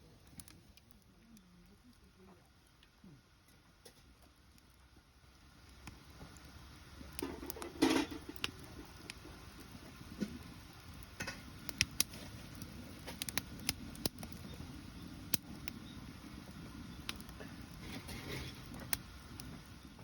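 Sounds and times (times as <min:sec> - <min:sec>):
wood bonfire crackling: 0:00.0 - 0:20.0.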